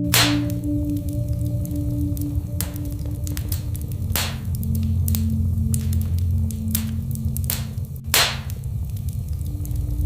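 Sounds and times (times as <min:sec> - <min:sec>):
low steady hum: 0:00.0 - 0:10.0
wood fire crackling: 0:00.0 - 0:10.0.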